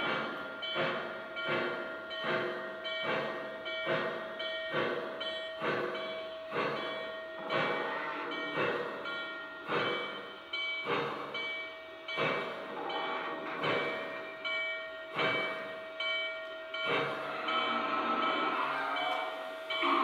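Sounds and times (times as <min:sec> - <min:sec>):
steam exhaust chuffs: 0:00.0 - 0:20.0.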